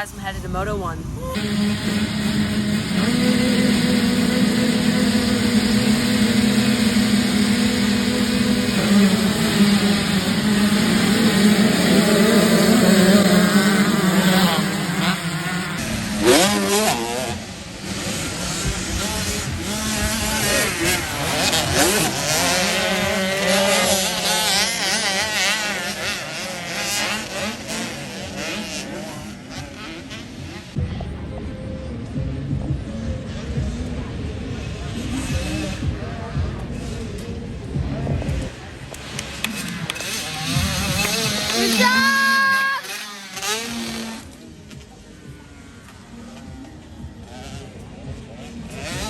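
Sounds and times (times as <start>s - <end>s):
dirt bike engine running: 1.4s - 49.0s.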